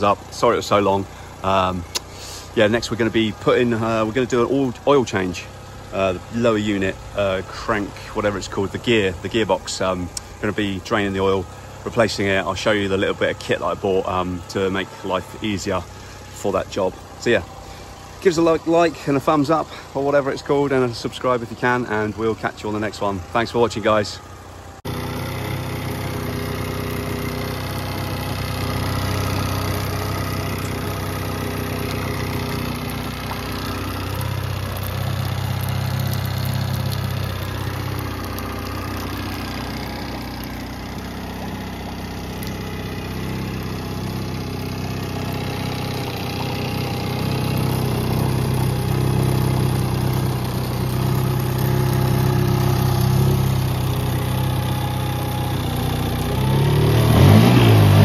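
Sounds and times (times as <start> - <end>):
outboard motor idling: 0.0 - 58.0.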